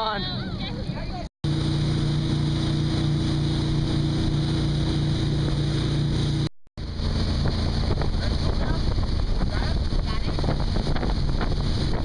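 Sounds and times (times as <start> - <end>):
rush of wind and water: 0.0 - 12.0
motorboat engine droning: 0.1 - 12.0.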